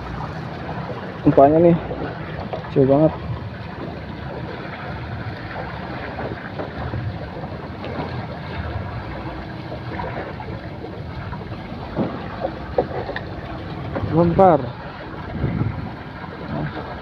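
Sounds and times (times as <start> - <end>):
water lapping: 0.0 - 17.0
wind buffeting microphone: 0.0 - 17.0.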